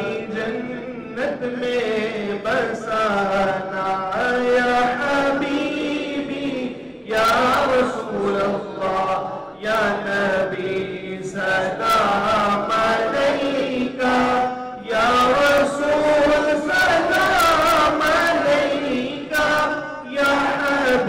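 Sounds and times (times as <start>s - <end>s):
person chanting devotional melody: 0.0s - 21.0s.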